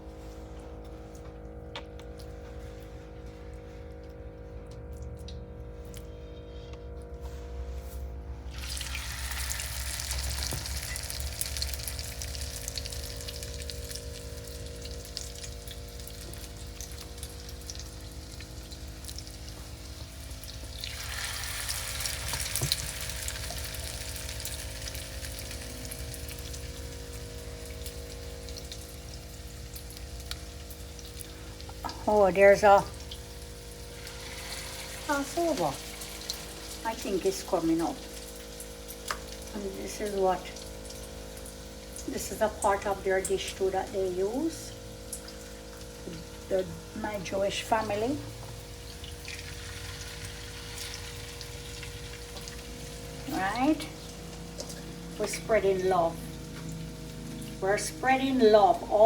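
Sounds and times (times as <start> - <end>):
steady low hum: 0.0 - 59.0
food sizzling in hot oil: 8.5 - 59.0.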